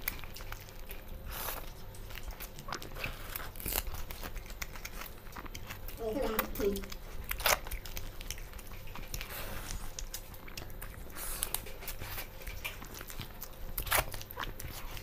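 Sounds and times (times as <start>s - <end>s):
people chewing and biting: 0.0s - 15.0s
steady low hum: 0.0s - 15.0s.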